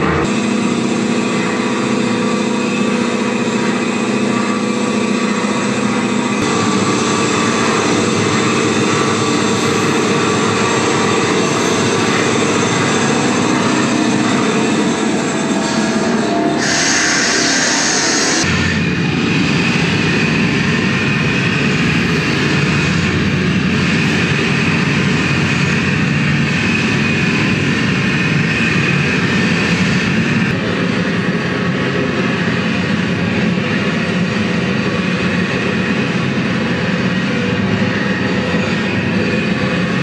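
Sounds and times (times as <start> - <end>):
high grinding whine: 0.0 - 40.0
jackhammers over loudspeakers: 0.0 - 40.0.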